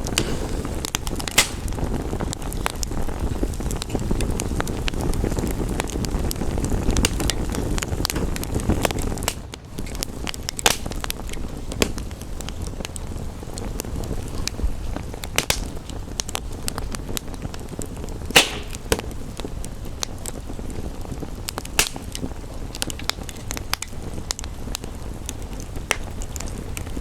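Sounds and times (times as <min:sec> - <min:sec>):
sharp pops and snaps: 0:00.0 - 0:27.0
wood fire crackling: 0:00.0 - 0:27.0.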